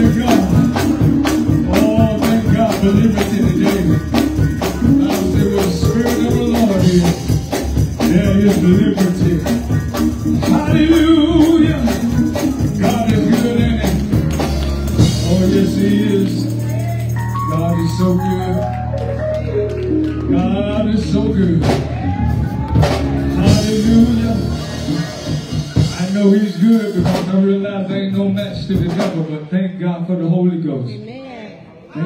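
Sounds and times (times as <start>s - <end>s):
gospel singing: 0.0s - 19.2s, 20.0s - 27.4s
drums: 0.0s - 20.2s, 21.0s - 29.5s
keyboard: 0.0s - 30.5s.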